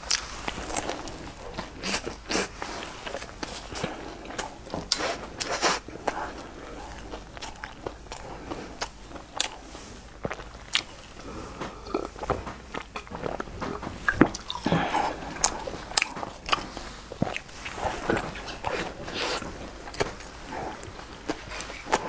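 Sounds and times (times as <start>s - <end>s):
chewing and mouth clicks: 0.0s - 22.0s.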